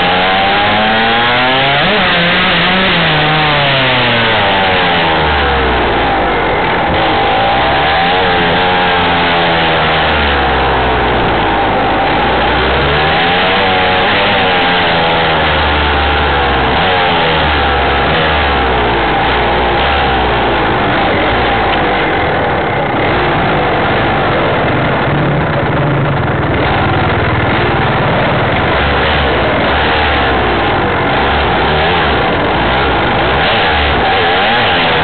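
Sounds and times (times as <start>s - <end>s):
dirt bike engine revving: 0.0s - 35.0s
wind and road noise: 0.0s - 35.0s.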